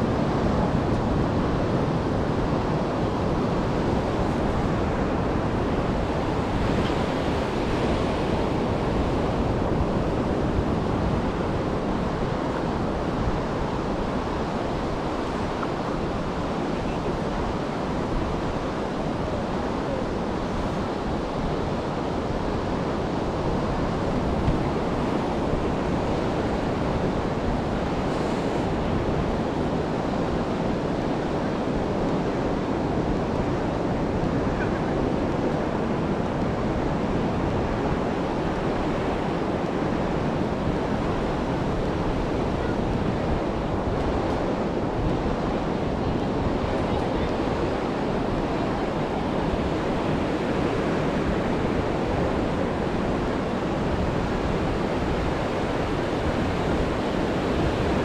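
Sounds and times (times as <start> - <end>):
ocean surf rushing: 0.0 - 58.0
wind buffeting microphone: 0.0 - 58.0.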